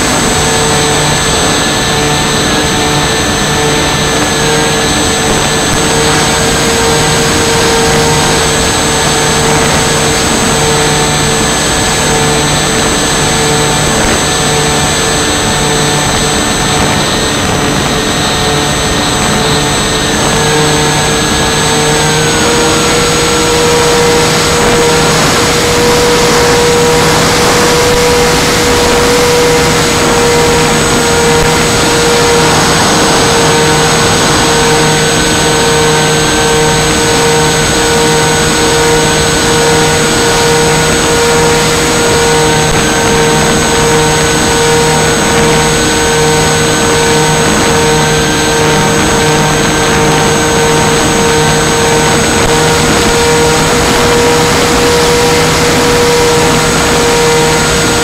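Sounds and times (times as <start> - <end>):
electric motors and propellers whining: 0.0 - 58.0
wind rush on microphone: 0.0 - 58.0.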